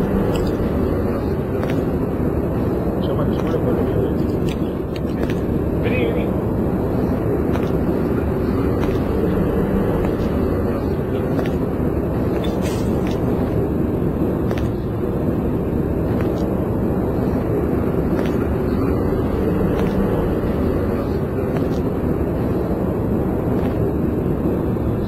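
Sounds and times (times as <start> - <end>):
indoor hall ambient roar: 0.0 - 25.0.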